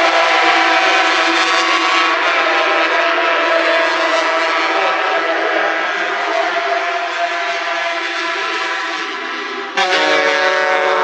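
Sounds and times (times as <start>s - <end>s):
racing motorcycles at high revs: 0.0s - 10.1s.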